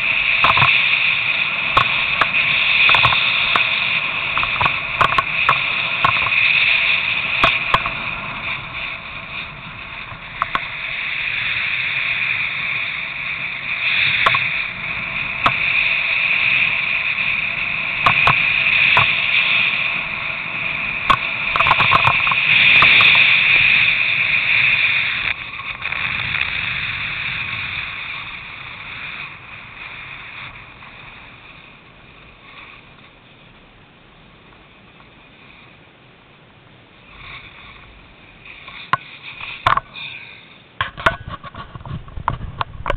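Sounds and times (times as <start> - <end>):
wind on microphone: 0.0 - 35.6, 37.0 - 42.9
snowboard scraping over snow: 0.0 - 35.8, 36.9 - 42.9.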